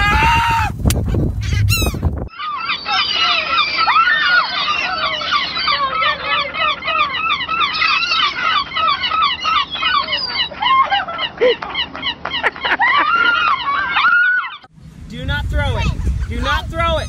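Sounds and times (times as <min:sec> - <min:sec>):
gulls squawking: 0:00.0 - 0:14.7, 0:15.6 - 0:17.0.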